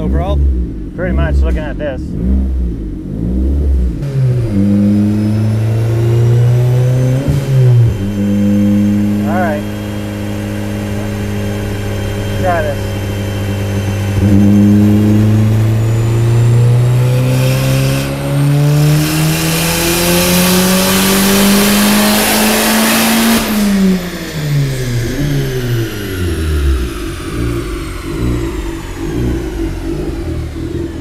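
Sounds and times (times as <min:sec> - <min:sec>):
car engine revving at full throttle: 0:00.0 - 0:31.0.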